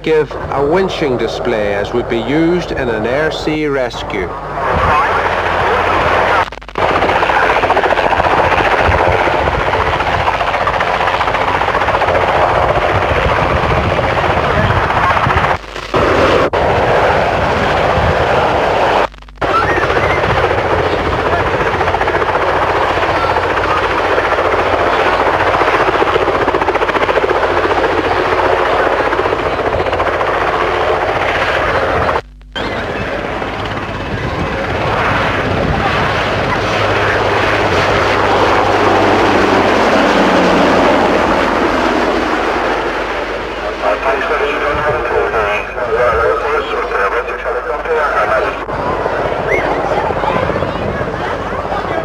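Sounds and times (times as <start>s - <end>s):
helicopter rotor beating: 0.0s - 52.0s
steady low hum: 0.0s - 52.0s.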